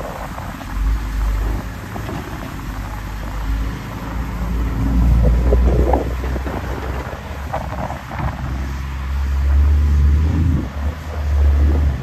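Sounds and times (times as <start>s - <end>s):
truck engine running: 0.0s - 12.0s
wind on microphone: 0.0s - 12.0s.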